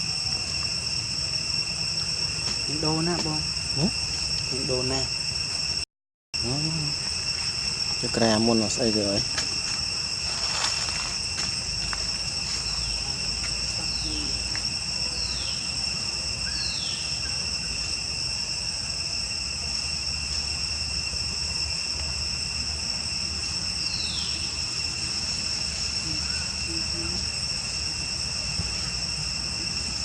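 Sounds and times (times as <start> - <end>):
insect chorus shrill hum: 0.0 - 30.0.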